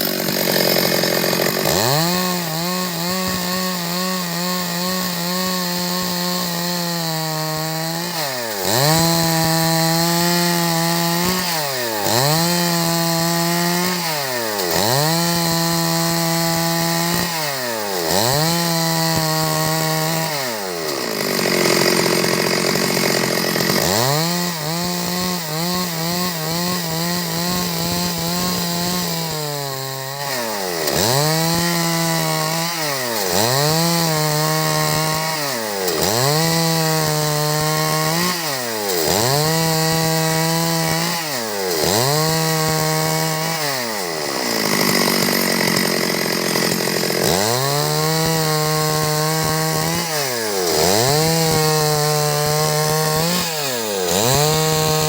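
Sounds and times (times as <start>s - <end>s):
chainsaw sawing wood: 0.0s - 55.0s.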